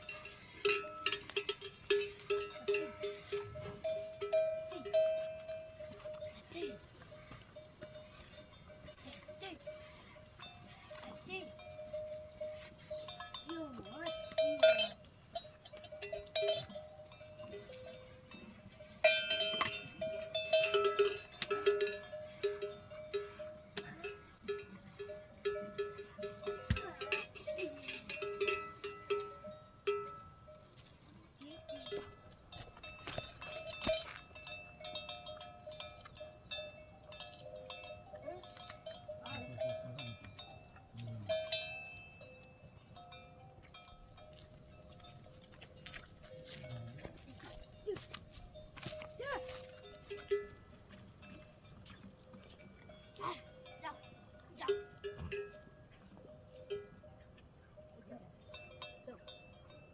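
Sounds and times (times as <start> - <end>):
livestock bells clanking: 0.0 - 59.9.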